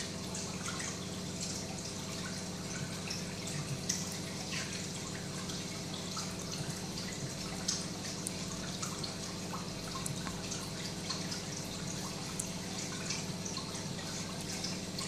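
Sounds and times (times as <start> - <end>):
aquarium equipment hum: 0.0 - 15.0
water trickling and dripping: 0.0 - 15.0.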